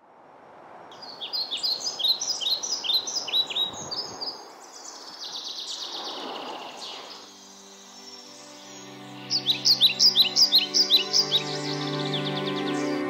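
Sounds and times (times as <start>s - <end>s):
songbird chirping and trilling: 0.9s - 13.0s.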